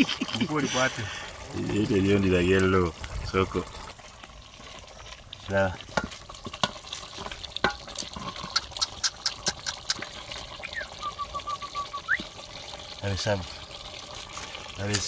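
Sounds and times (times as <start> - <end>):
stew liquid sloshing: 0.0 - 15.0.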